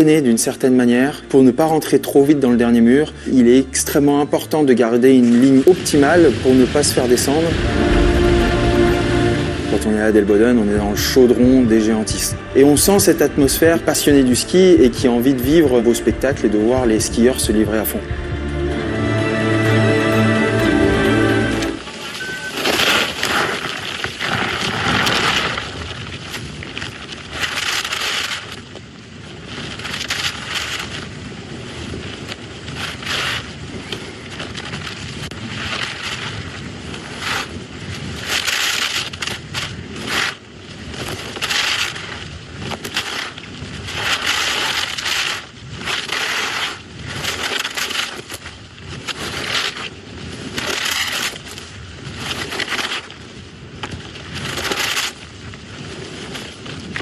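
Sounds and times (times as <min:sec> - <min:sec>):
skis scraping on ice: 0:00.0 - 0:18.3, 0:18.9 - 0:57.0
wind rush on microphone: 0:05.1 - 0:18.5, 0:21.7 - 0:57.0.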